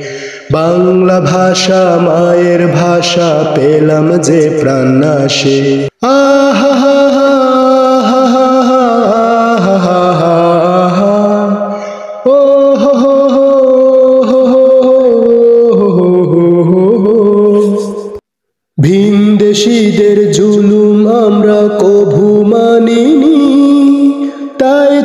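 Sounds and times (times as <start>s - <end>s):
man singing wordless refrain: 0.0s - 18.2s, 18.8s - 25.0s.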